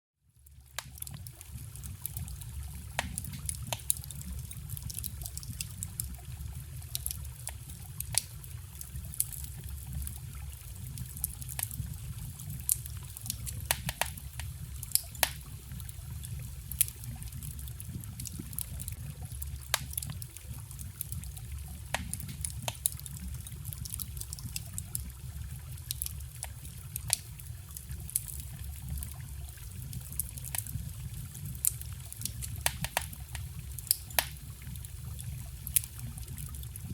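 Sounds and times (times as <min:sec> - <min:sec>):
bonfire crackling and popping: 0:00.4 - 0:36.9.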